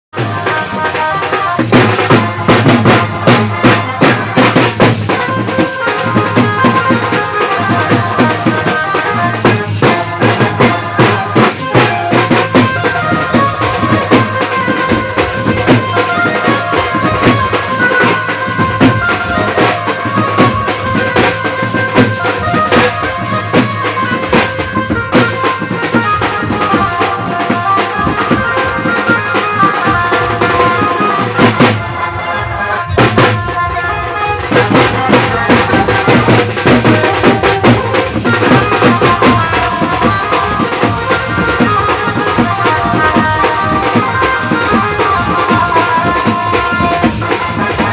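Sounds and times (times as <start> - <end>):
dance music with drum beat: 0.1 - 32.0, 34.5 - 47.9.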